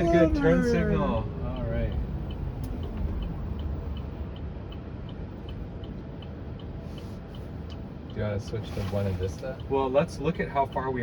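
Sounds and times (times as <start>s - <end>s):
low road rumble: 0.0s - 11.0s
turn signal ticking: 0.0s - 11.0s.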